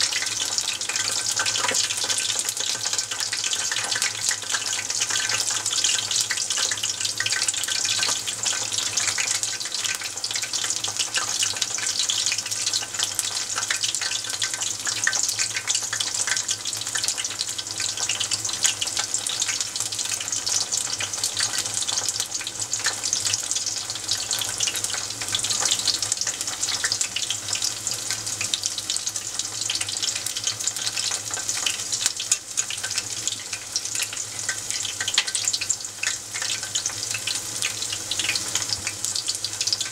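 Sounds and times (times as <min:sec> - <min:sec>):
tempura deep-frying in oil: 0:00.0 - 0:39.9.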